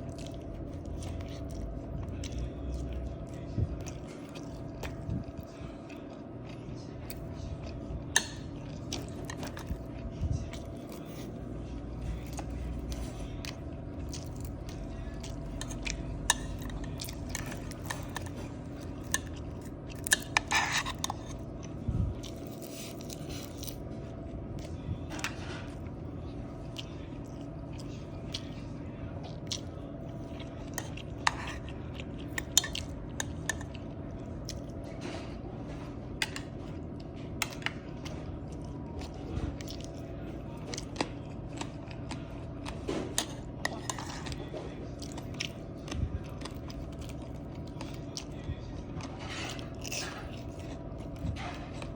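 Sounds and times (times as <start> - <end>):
person chewing food: 0.0 - 51.9
steady low hum: 0.0 - 51.9.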